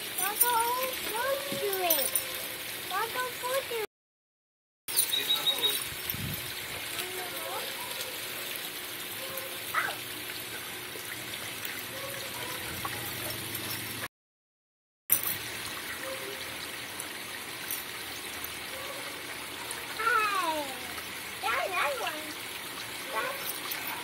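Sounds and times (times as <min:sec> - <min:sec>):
fountain water splashing: 0:00.0 - 0:03.8, 0:05.0 - 0:14.0, 0:15.1 - 0:24.0.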